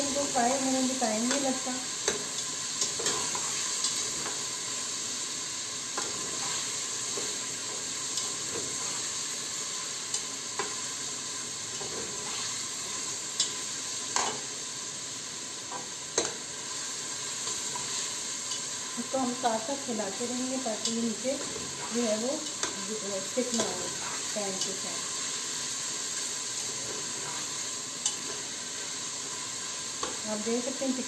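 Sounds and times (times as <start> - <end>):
chicken sizzling in hot oil: 0.0 - 31.0.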